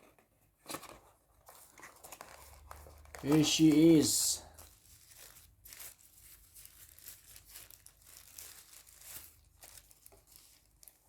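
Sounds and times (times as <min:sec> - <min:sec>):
plastic packaging crinkling: 0:00.7 - 0:11.0.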